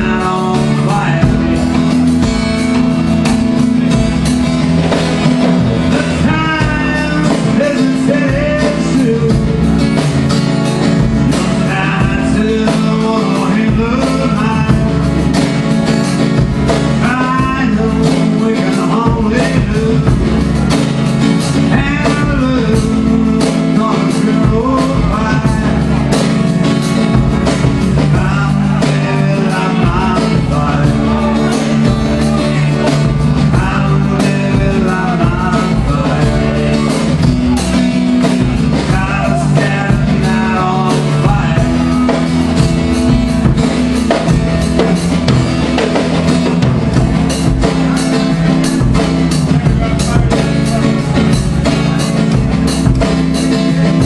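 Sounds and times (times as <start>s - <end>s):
acoustic guitar: 0.0s - 54.0s
drums playing: 0.0s - 54.0s.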